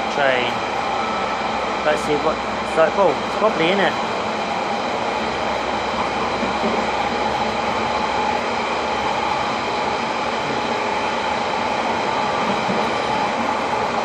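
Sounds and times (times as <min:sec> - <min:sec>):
steady train whine: 0:00.0 - 0:14.0
train wheels on rail: 0:00.0 - 0:14.0.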